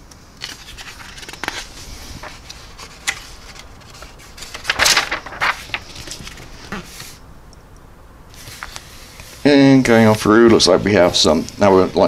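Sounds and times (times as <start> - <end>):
paper pages rustling: 0.4 - 7.2, 8.4 - 11.4.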